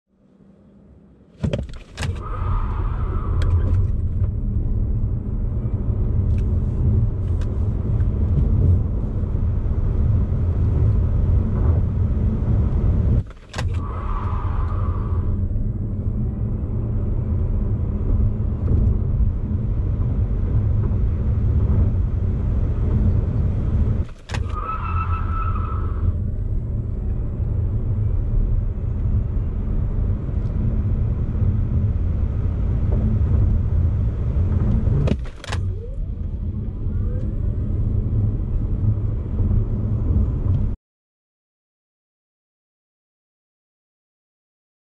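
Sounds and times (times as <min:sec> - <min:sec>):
road and tyre rumble: 0:00.1 - 0:40.8.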